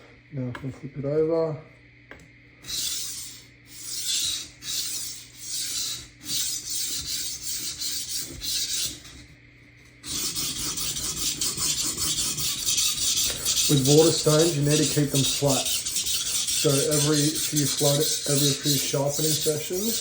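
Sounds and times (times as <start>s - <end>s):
knife scraping on whetstone: 2.6s - 9.3s, 10.0s - 20.0s.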